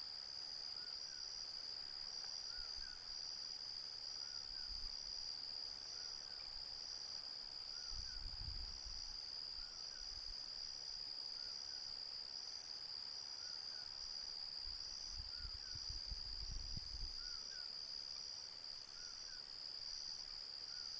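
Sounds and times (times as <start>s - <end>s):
insects pulsing trill: 0.1s - 20.9s.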